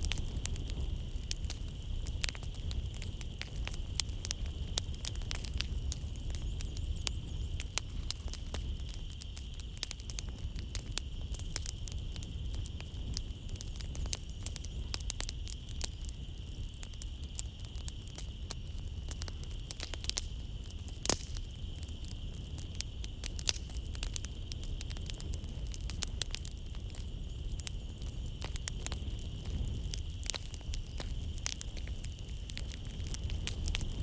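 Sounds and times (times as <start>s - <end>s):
night insects droning: 0.0s - 34.0s
wood fire crackling: 0.0s - 34.0s.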